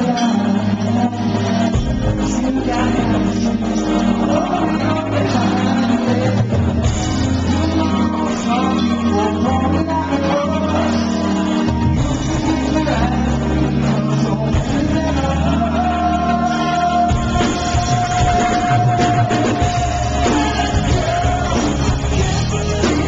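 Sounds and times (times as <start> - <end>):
bass guitar notes: 0.0 - 23.0
man singing into microphone: 0.0 - 23.0
metal band playing live: 0.0 - 23.0.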